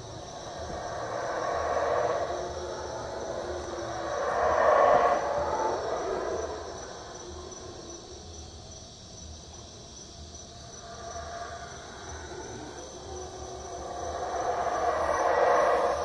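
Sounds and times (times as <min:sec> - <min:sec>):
howler monkeys howling: 0:00.0 - 0:08.6, 0:10.6 - 0:16.0
high insect trill: 0:00.0 - 0:16.0.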